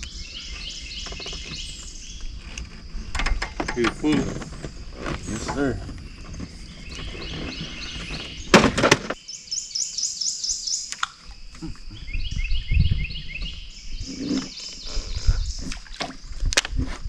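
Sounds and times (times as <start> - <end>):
songbirds singing: 0.0 - 16.5.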